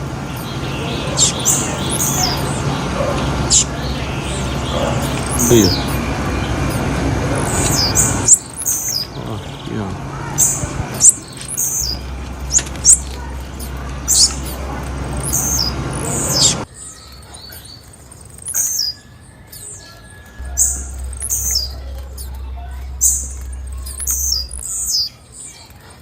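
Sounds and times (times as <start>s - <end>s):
steady hiss and hum: 0.0s - 16.7s, 20.4s - 25.3s
bird chirping: 0.0s - 26.0s.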